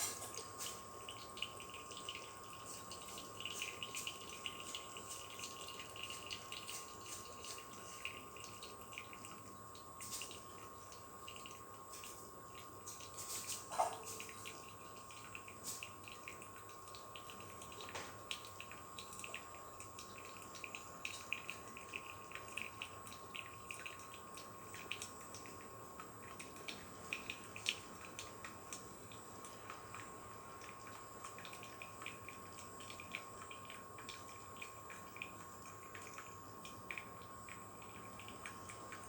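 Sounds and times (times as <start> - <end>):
coffee maker popping and gurgling: 0.0 - 39.0.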